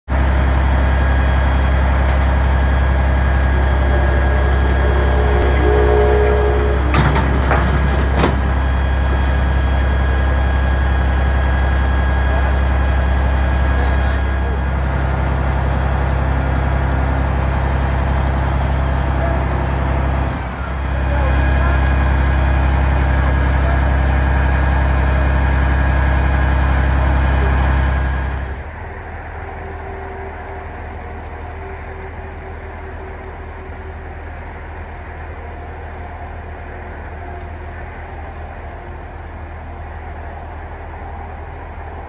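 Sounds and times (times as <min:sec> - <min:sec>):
diesel engine idling: 0:00.1 - 0:42.0.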